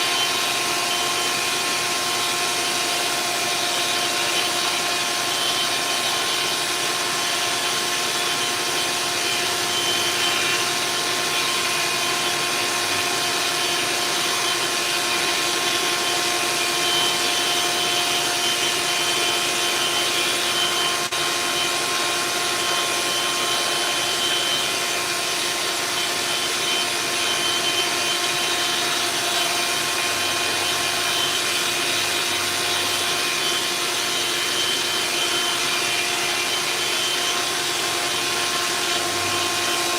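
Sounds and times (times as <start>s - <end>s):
electric power sander running: 0.0s - 39.9s.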